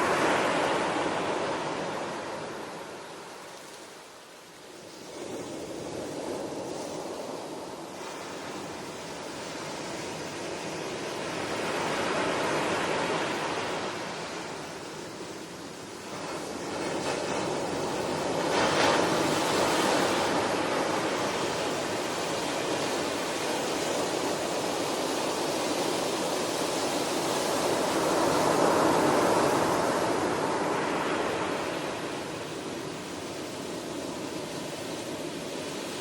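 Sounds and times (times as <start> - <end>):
ocean waves washing onto shore: 0.0 - 36.0.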